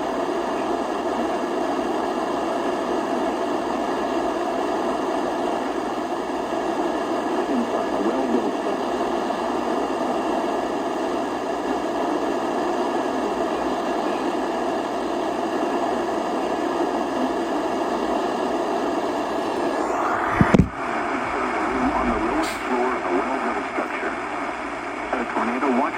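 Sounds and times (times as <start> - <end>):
radio static hiss: 0.0 - 25.9.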